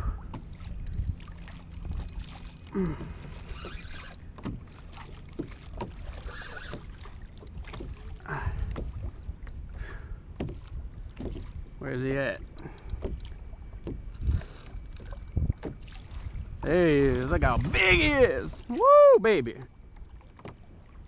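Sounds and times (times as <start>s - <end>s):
wind rumble on microphone: 0.0s - 4.7s, 5.4s - 21.0s
water slapping against kayak hull: 0.0s - 21.0s.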